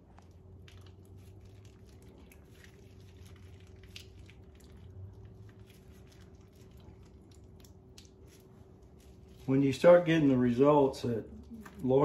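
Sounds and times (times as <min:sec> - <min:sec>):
faint steady hum: 0:00.0 - 0:12.0
wet squishing of mayonnaise: 0:00.0 - 0:12.0.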